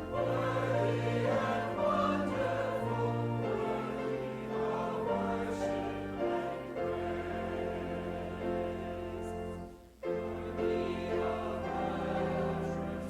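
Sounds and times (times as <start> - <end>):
congregation and choir singing hymn: 0.0 - 13.0
organ accompaniment: 0.0 - 13.0.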